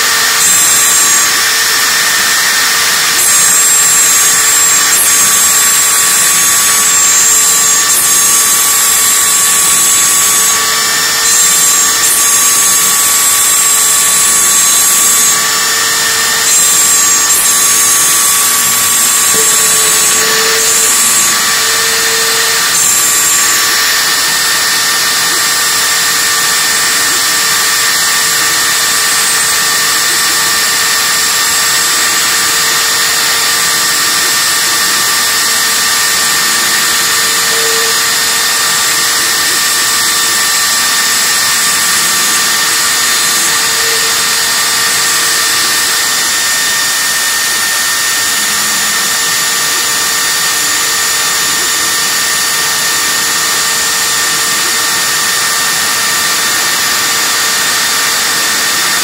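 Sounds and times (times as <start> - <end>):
mill spindle whine: 0.0 - 59.0.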